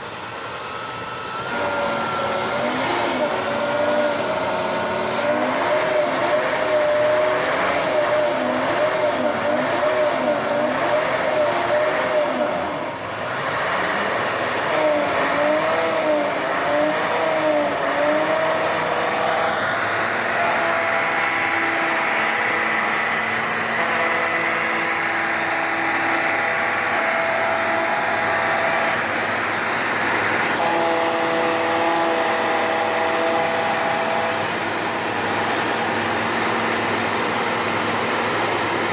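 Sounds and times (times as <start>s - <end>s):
truck engine labouring: 0.0s - 38.9s.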